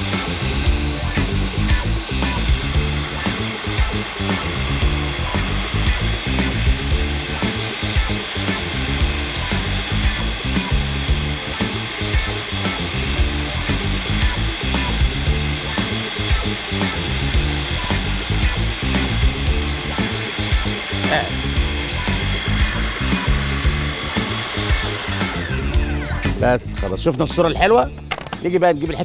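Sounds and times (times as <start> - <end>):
food processor motor whine: 0.0 - 26.3.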